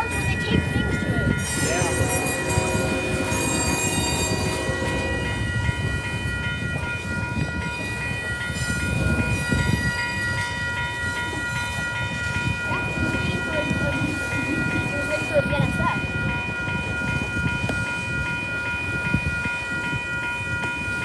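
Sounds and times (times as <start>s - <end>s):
crossing warning bell ringing: 0.0s - 21.0s
freight train rumble and wheel clatter: 0.0s - 21.0s.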